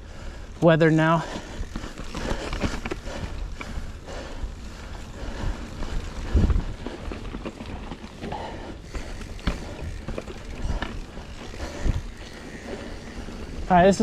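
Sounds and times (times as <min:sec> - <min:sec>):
bike rattling on dirt trail: 0:00.0 - 0:14.0
wind buffeting microphone: 0:01.3 - 0:14.0.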